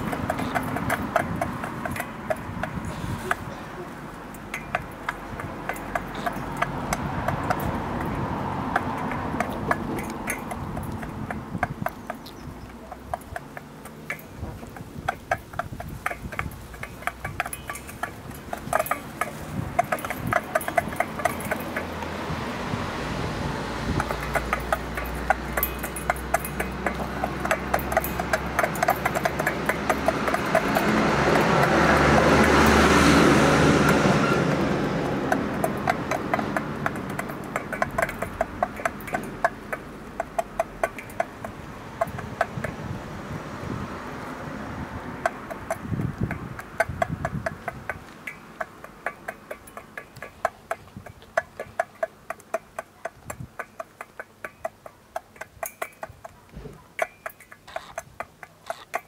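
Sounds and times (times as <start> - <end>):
vehicle passing: 0.0 - 52.6
beaks ticking on metal bowl: 0.0 - 59.0.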